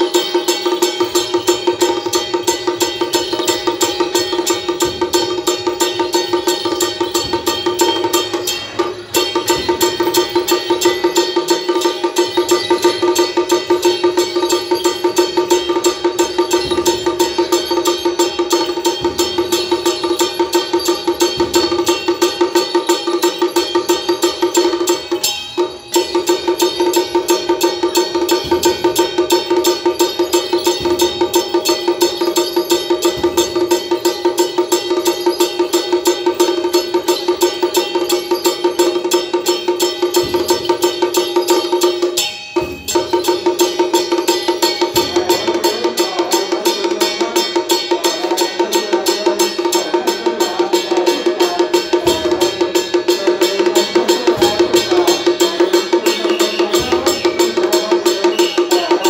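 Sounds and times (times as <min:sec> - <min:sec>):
fast percussion strokes: 0:00.0 - 0:59.0
rapid gong and cymbal strikes: 0:00.0 - 0:59.0
steady ringing tone: 0:00.0 - 0:59.0.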